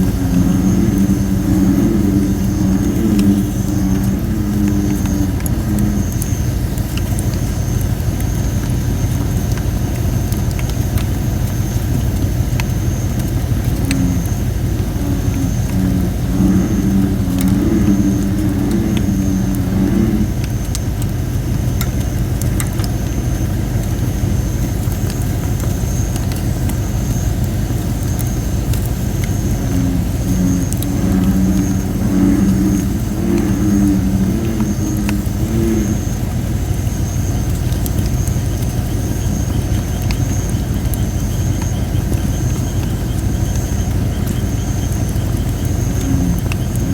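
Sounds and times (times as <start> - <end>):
bullfrogs croaking: 0.0 - 46.9
fire low rumble: 0.0 - 46.9
high hiss from damp wood: 0.0 - 46.9.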